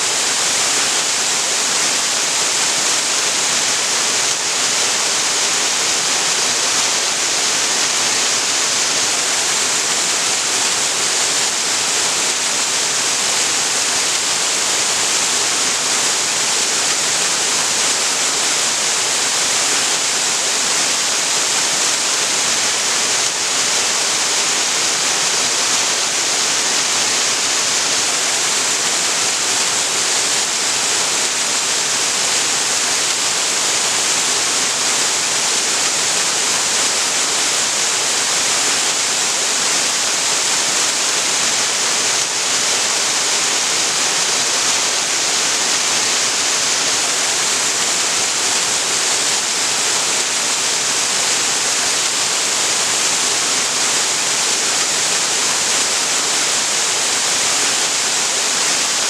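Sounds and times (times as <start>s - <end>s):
waterfall pouring into pool: 0.0s - 59.0s.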